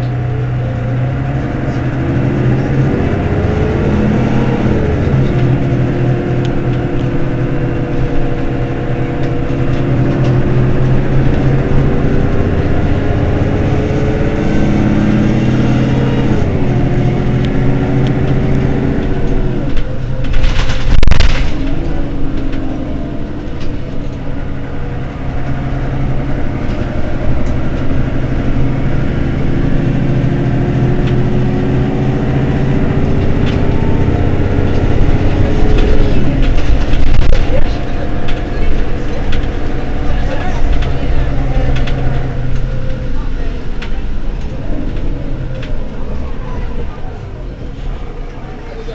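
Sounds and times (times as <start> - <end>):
bus engine pulling under load: 0.0 - 48.9
loud rush of noise: 0.0 - 48.9.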